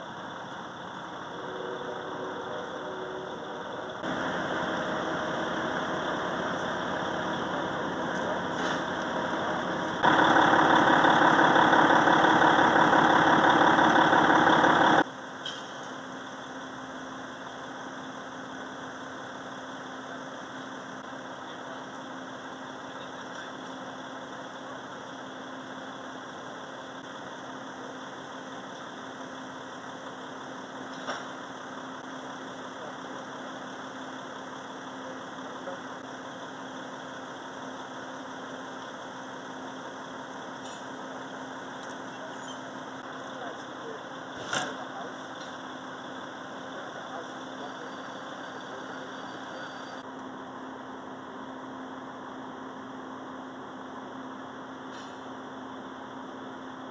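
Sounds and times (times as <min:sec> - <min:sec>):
fire engine idling: 0:00.0 - 0:56.9
loud engine noise: 0:00.0 - 0:56.9.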